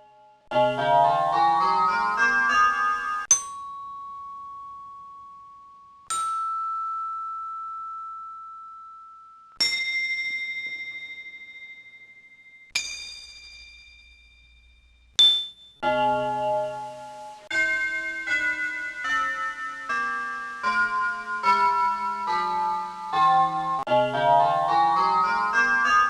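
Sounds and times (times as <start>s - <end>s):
small bells ringing: 0.0s - 26.0s.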